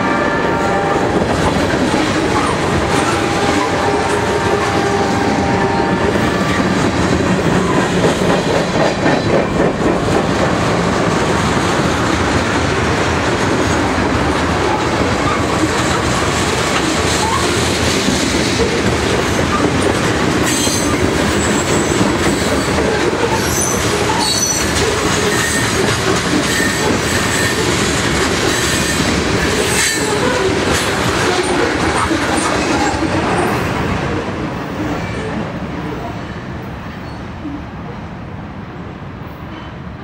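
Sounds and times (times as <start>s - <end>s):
freight train wheels rumbling: 0.0s - 40.0s.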